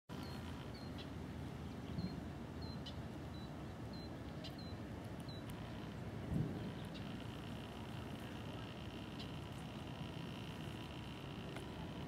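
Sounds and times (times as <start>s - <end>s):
small bird chirping: 0.1s - 12.0s
steady low rumble: 0.1s - 12.0s.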